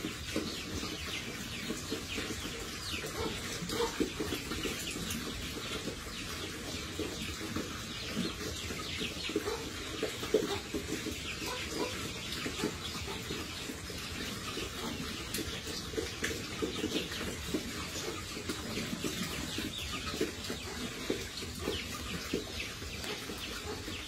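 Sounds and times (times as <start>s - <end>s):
pigs chewing and slurping: 0.0s - 24.0s.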